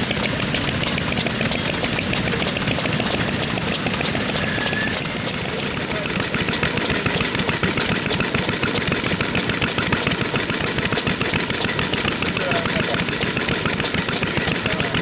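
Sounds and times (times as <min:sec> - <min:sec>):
stationary engines idling: 0:00.0 - 0:15.0.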